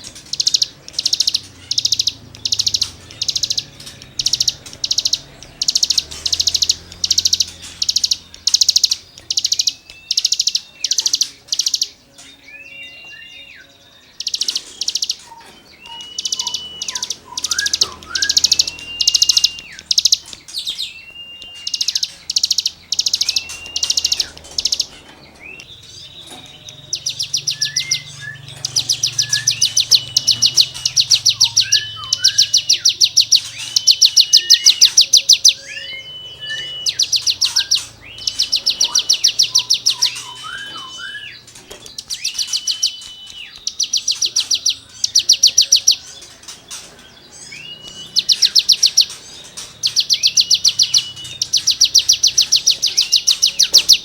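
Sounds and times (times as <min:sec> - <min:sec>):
clear bird whistle: 0:00.0 - 0:54.0
songbird singing rasping notes: 0:00.0 - 0:54.0.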